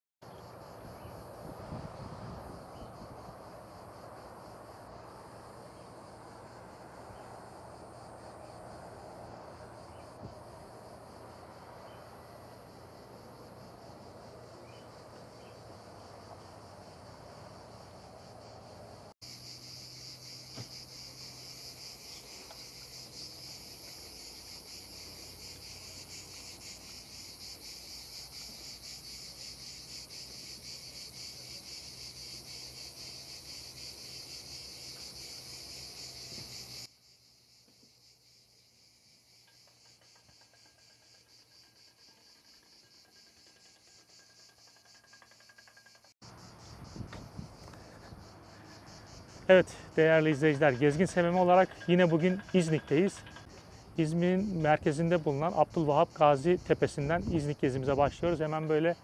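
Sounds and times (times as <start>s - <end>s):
insects chirping: 0.2s - 59.0s.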